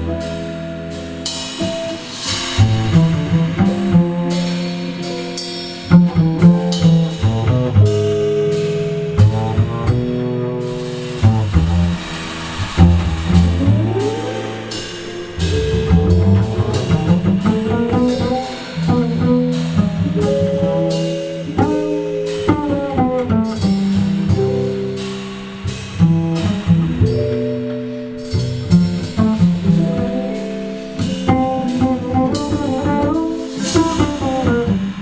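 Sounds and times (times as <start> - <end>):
jazz trio playing: 0.0 - 35.0.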